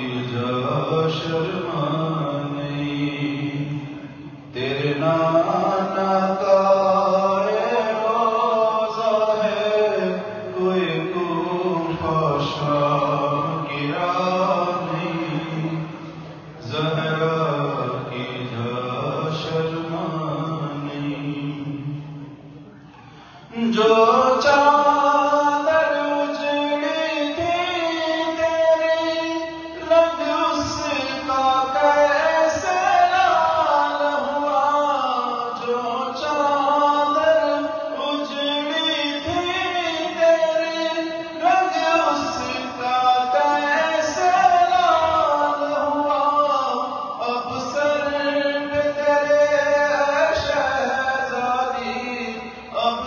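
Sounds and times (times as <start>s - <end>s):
man chanting a lament: 0.0s - 22.4s, 23.4s - 53.0s.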